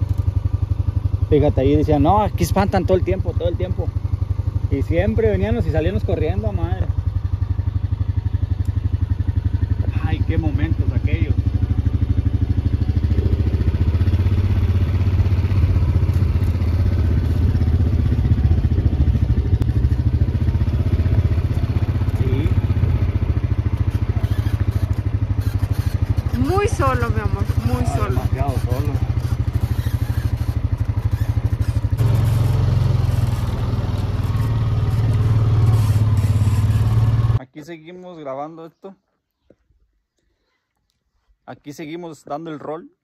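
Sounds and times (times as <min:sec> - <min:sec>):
small engine puttering: 0:00.0 - 0:37.4.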